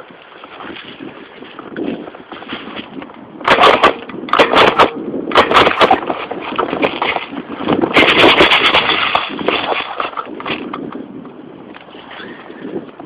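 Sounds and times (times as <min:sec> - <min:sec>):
crackling microphone handling noise: 0:00.0 - 0:13.0
twigs scraping against camera: 0:00.1 - 0:12.4.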